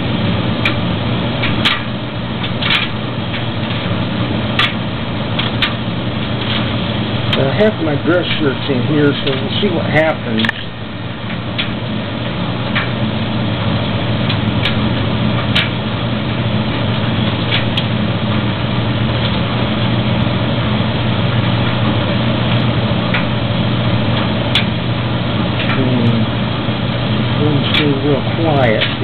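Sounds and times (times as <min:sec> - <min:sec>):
gas dryer running: 0:00.0 - 0:29.0.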